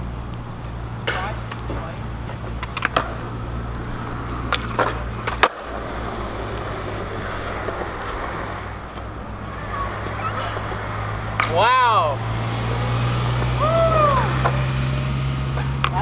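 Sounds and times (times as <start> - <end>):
skateboard clacks: 0.0 - 16.0
skateboard slap: 0.0 - 16.0
skateboard wheels rolling: 0.0 - 16.0.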